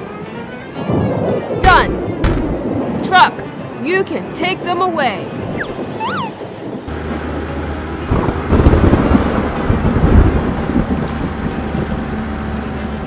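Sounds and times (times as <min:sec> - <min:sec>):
thunder rumbling: 0:00.7 - 0:12.7.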